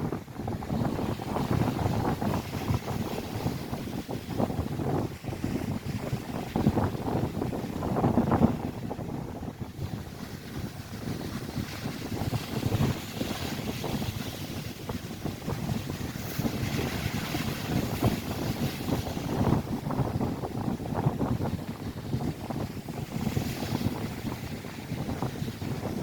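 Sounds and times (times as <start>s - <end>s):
wind buffeting microphone: 0.0s - 26.0s
lake waves breaking on shore: 0.3s - 26.0s.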